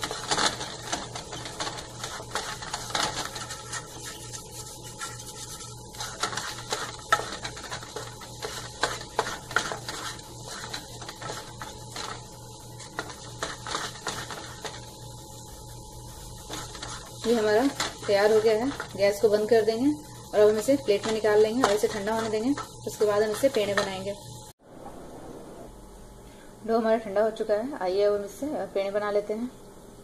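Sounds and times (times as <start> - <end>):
wooden spatula scraping a pan: 0.0 - 24.2
steady low hum: 0.0 - 28.8.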